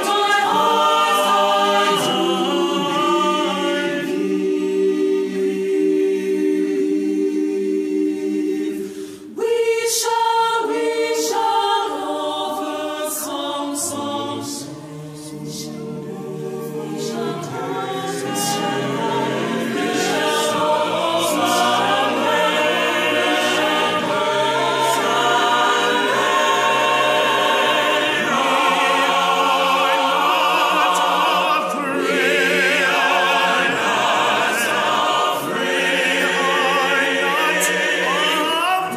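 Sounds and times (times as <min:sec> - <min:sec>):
mixed choir singing in harmony: 0:00.0 - 0:38.9.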